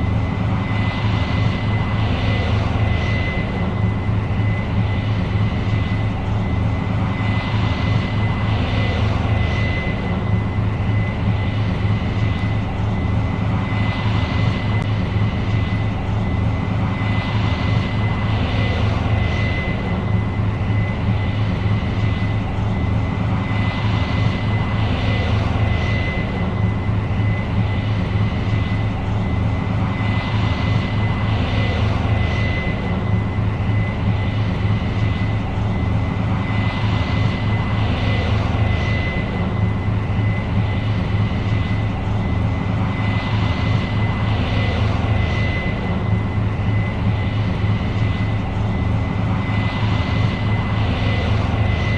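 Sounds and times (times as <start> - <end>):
combine engine hum: 0.0 - 51.9
steady high whine: 0.0 - 51.9.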